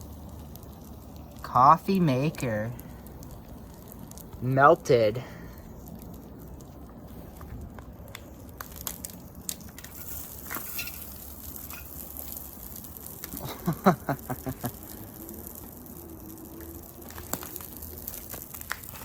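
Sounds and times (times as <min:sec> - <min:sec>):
melted plastic crackling and crunching: 0:00.0 - 0:19.0.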